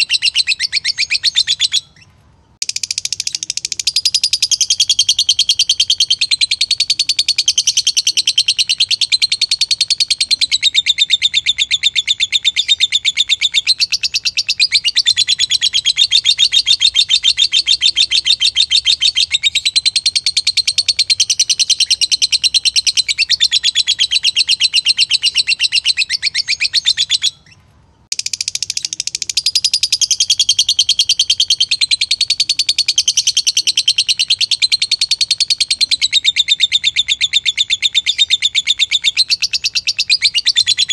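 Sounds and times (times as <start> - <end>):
lovebird chirping rapidly: 0.0 - 40.9.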